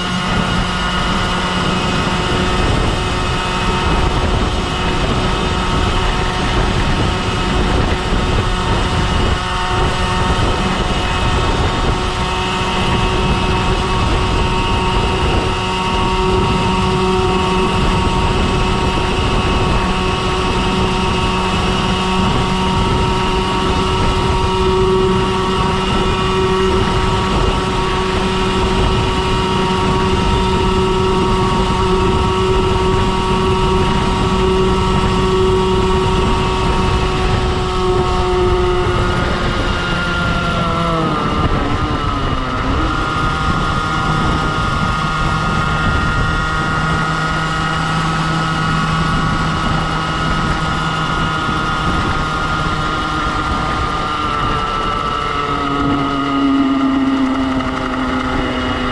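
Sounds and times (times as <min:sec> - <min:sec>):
two-stroke engine running hard: 0:00.0 - 0:58.9
wind rush on microphone: 0:00.0 - 0:58.9.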